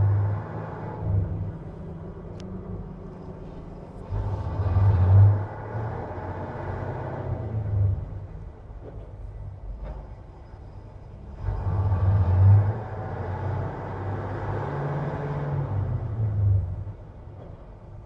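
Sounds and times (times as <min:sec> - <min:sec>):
truck diesel engine revving: 0:00.0 - 0:08.6, 0:11.2 - 0:17.4.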